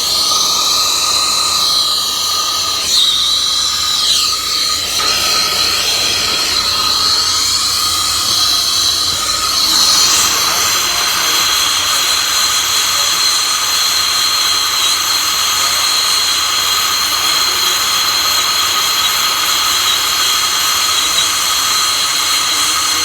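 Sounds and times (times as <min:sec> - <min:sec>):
torch flame hissing and whistling: 0:00.0 - 0:23.0.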